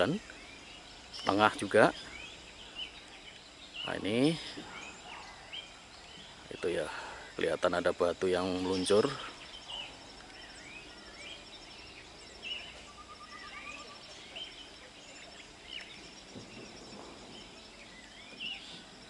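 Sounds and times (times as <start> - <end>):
birds chirping: 0.0 - 19.0
faint outdoor hiss: 0.0 - 19.0
rapid bird trill: 0.0 - 19.0.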